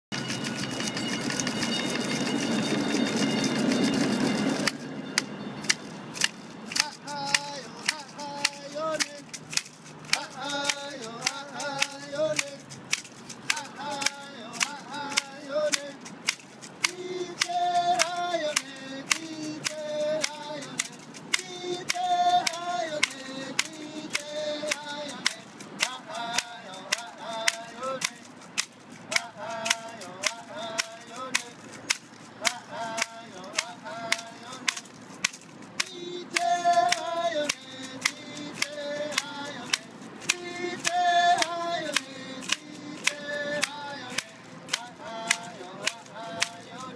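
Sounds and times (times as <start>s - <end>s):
wooden clapper sticks clacking: 0.1s - 46.9s
men singing a chant: 6.7s - 35.0s, 35.8s - 46.9s.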